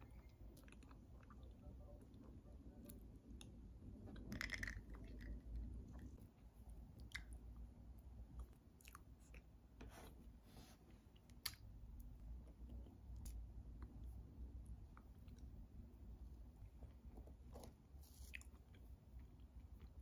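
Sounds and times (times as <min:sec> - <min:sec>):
chewing soft pastry: 0:00.0 - 0:20.0.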